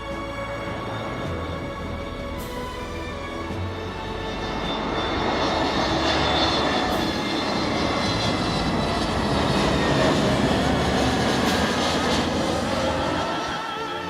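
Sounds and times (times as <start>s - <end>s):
airliner jet engines passing: 0.0s - 14.0s.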